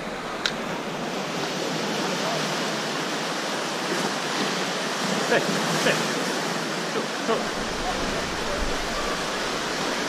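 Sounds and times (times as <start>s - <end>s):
seawater washing around rocks: 0.0s - 10.0s.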